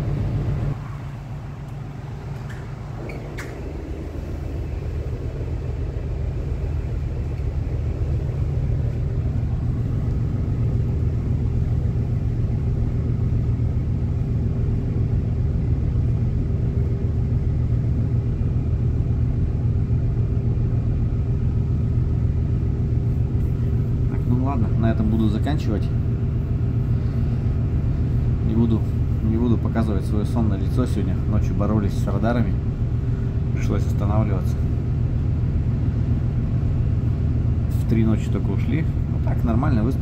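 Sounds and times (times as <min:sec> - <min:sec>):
faint steady hum: 0:00.0 - 0:40.0
ship engine rumbling: 0:00.0 - 0:40.0.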